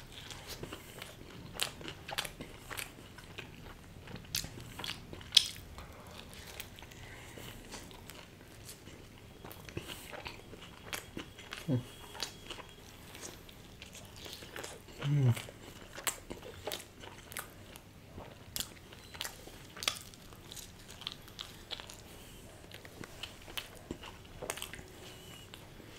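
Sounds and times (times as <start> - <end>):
biting and chewing food: 0.0 - 25.9.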